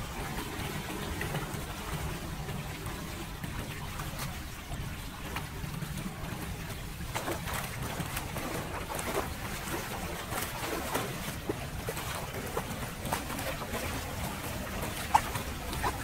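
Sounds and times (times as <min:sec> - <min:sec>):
floodwater rushing down a drain: 0:00.0 - 0:16.0
splashes in shallow water: 0:00.0 - 0:16.0.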